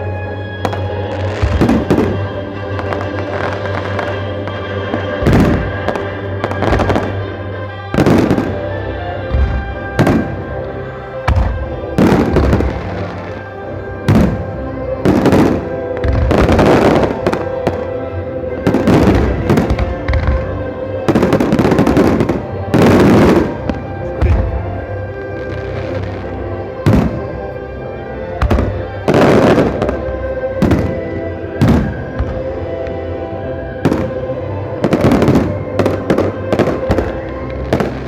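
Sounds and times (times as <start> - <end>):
music playing: 0.0 - 38.0
fireworks bursting: 0.6 - 27.5, 30.6 - 33.0, 33.8 - 38.0.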